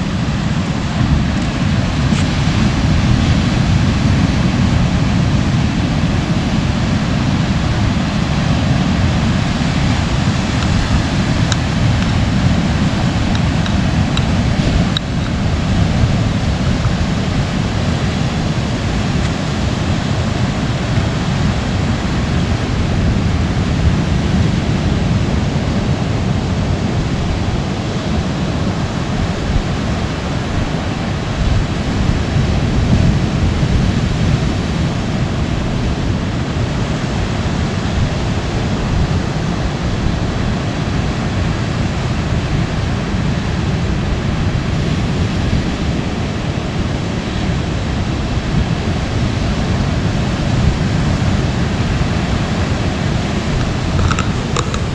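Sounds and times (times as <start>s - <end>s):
ocean surf breaking on rocks: 0.0s - 54.9s.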